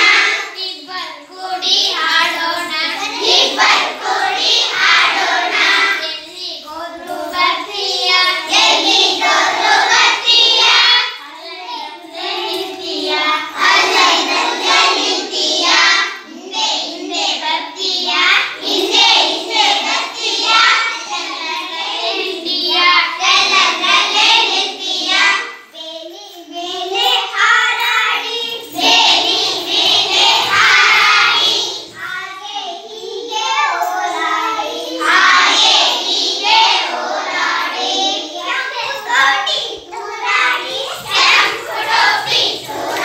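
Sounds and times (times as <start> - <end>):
children singing: 0.0 - 43.0.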